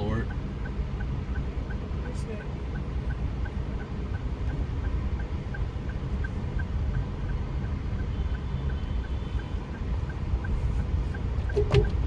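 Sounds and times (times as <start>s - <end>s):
car engine and road rumble: 0.0s - 12.0s
faint steady ticking: 0.0s - 12.0s.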